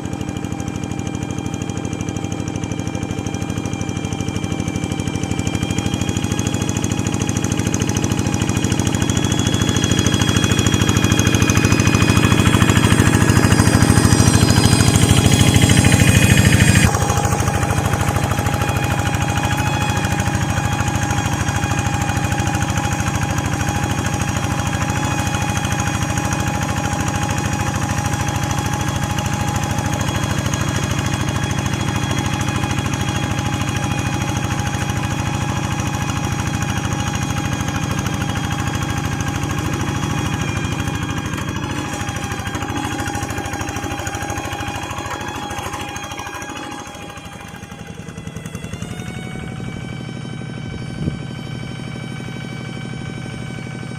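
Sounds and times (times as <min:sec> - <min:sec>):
hand tractor engine running: 0:00.0 - 0:53.9.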